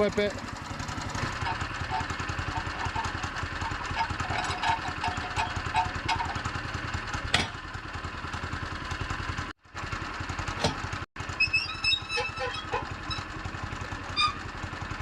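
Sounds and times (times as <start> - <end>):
gas engine idling: 0.0 - 15.0.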